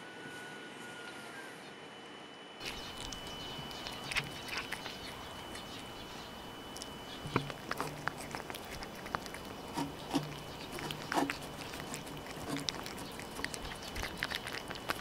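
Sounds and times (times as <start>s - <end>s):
cats eating with wet chewing: 2.6s - 15.0s.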